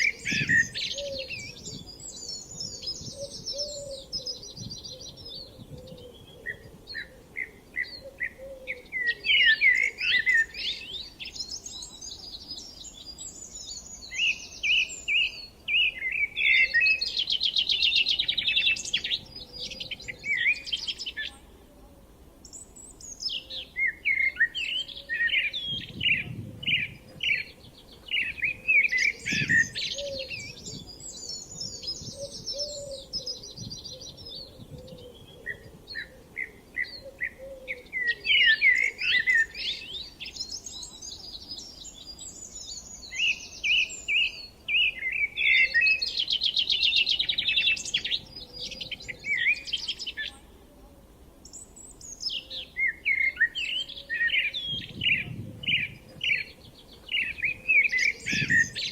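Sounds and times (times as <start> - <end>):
songbird chirping and trilling: 0.0 - 21.7, 22.4 - 58.9.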